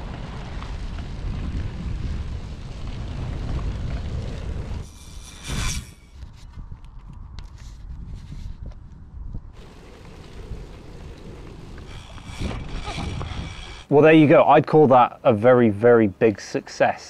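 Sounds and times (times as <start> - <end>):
wind rumbling on microphone: 0.0 - 13.9
bike tyres on grass: 0.0 - 14.8.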